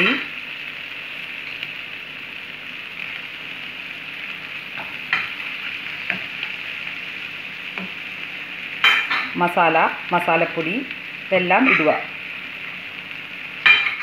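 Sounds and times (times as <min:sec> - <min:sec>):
masala sizzling in a frying pan: 0:00.0 - 0:14.0.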